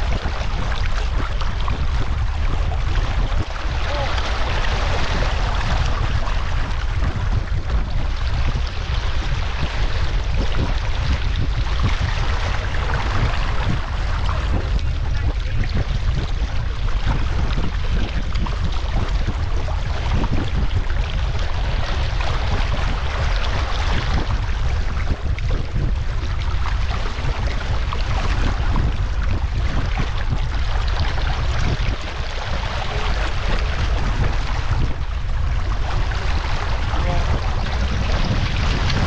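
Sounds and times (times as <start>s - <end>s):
water splashing along a hull: 0.0s - 39.0s
wind buffeting microphone: 0.0s - 39.0s.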